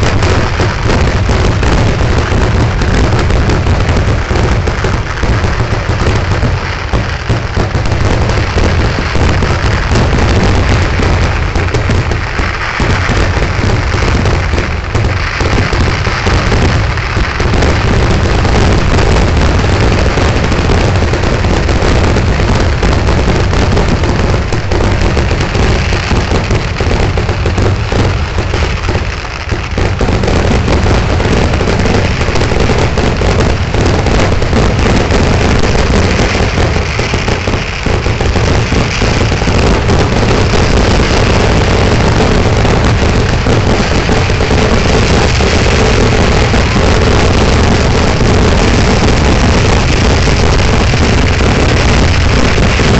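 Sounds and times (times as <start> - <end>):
fireworks bangs: 0.0 - 52.9.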